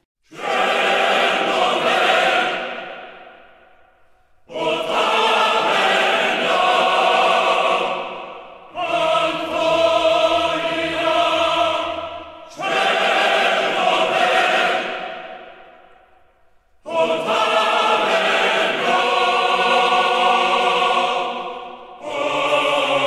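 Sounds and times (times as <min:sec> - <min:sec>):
choir singing long chords: 0:00.3 - 0:23.0.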